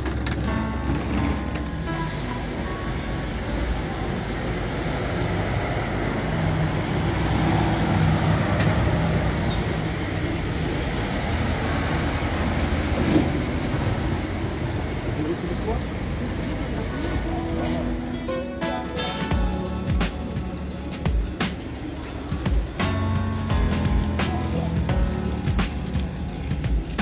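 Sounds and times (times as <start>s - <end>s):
street traffic rumble: 0.0s - 27.0s
vehicle engine hum: 0.0s - 27.0s.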